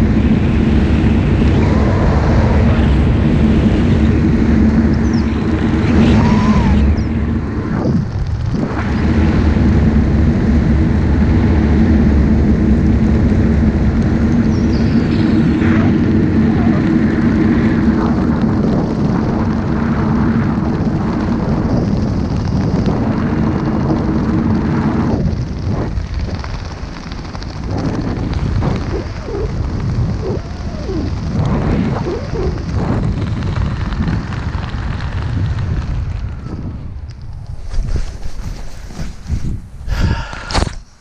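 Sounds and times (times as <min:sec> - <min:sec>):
aircraft propeller droning: 0:00.0 - 0:40.8
wind rushing over microphone: 0:00.0 - 0:41.0.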